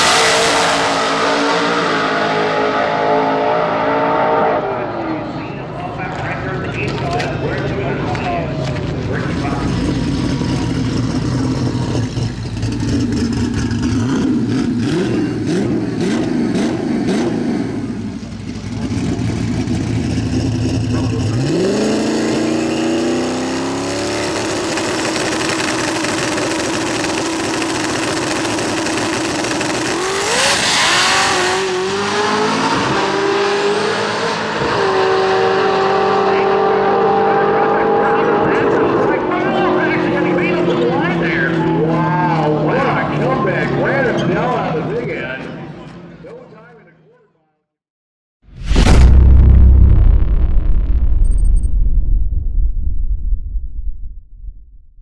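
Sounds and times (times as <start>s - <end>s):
drag race car engines revving: 0.0s - 46.2s.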